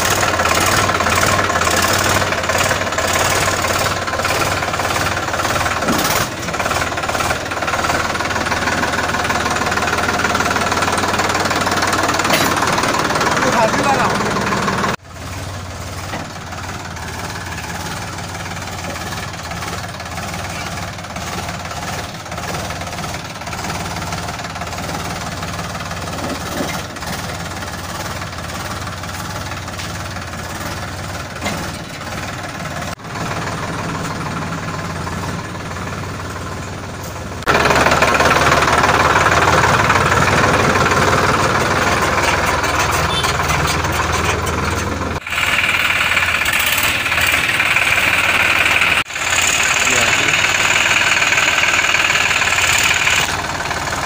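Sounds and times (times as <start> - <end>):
tractor diesel engine clattering: 0.0 - 54.0.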